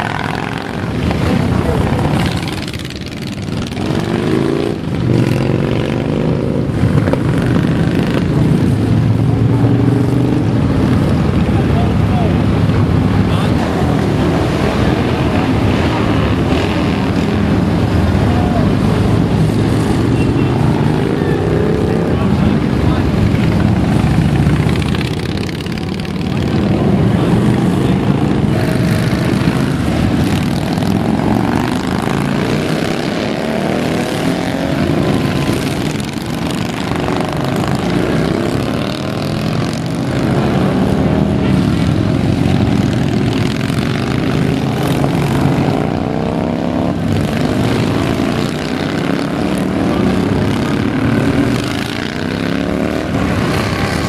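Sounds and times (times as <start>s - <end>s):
motorcycles riding past: 0.0s - 54.0s.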